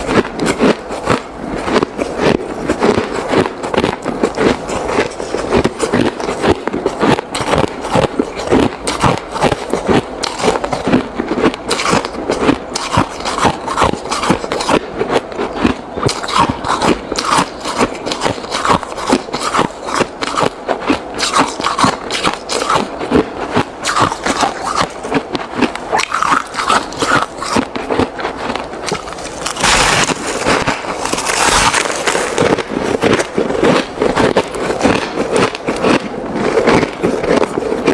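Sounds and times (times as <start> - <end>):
ice being chewed: 0.0 - 37.9.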